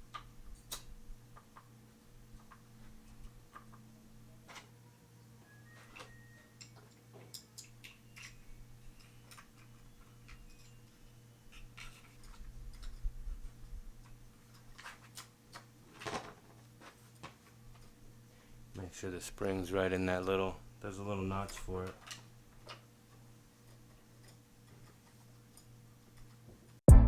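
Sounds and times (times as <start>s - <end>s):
faint steady hum: 0.0s - 15.9s, 16.5s - 26.8s.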